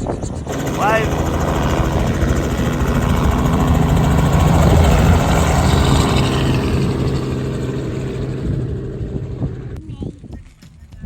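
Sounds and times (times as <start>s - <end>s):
vehicle engine passing by: 0.5s - 9.8s.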